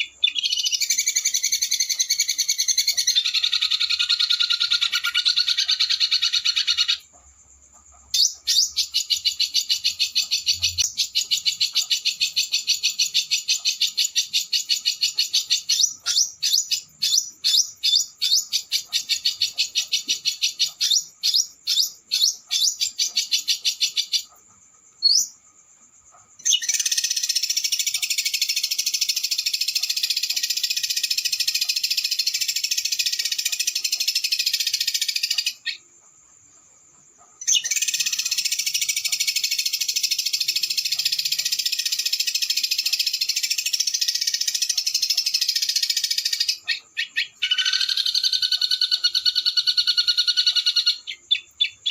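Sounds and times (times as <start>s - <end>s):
songbird trilling: 0.0s - 7.2s, 7.8s - 24.4s, 26.3s - 35.9s, 37.4s - 51.9s.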